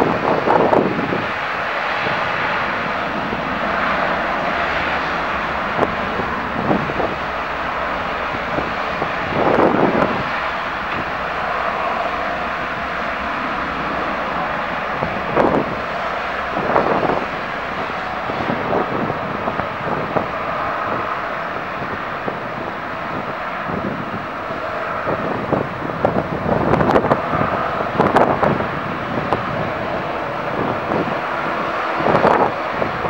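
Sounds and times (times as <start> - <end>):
airliner engines running: 0.0 - 33.0
wind buffeting the microphone: 0.0 - 33.0.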